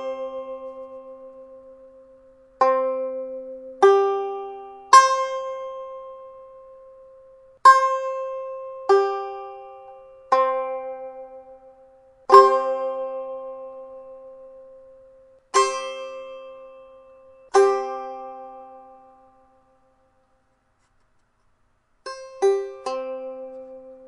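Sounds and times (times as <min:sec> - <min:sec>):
string instrument strums ringing: 0:00.0 - 0:24.0.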